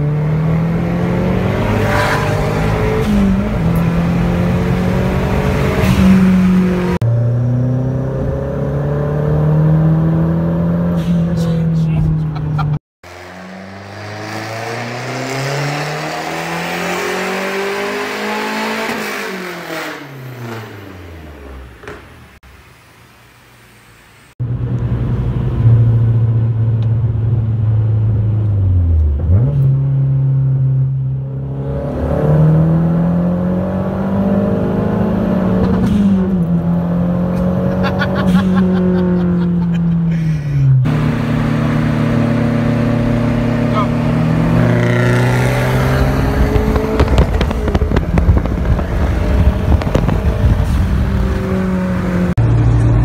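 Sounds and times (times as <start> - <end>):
car engine accelerating: 0.0 - 21.9, 24.4 - 53.0
car engine revving: 0.0 - 21.9, 24.4 - 53.0.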